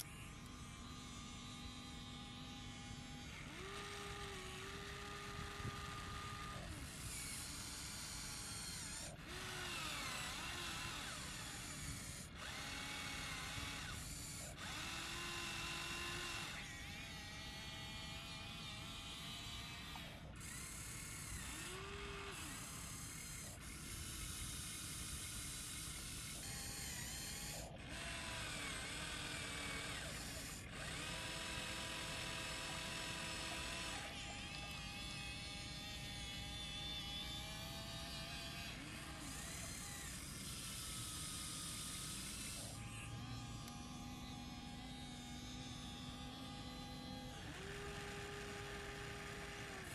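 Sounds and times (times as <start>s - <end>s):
small electric motors whining: 0.0s - 49.9s.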